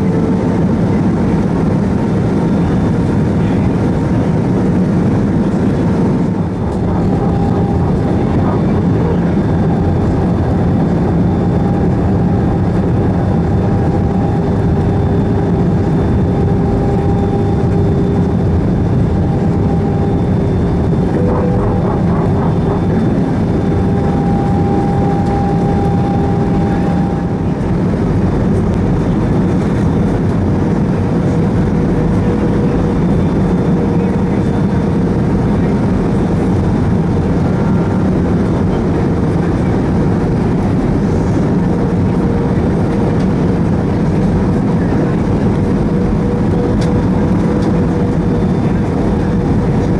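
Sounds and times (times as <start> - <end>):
aircraft cabin rumble: 0.0 - 49.9.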